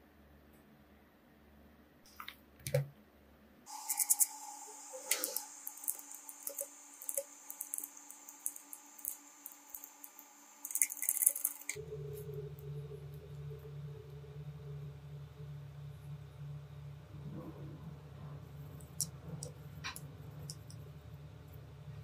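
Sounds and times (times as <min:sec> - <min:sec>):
steady hum and hiss: 0:00.0 - 0:22.0.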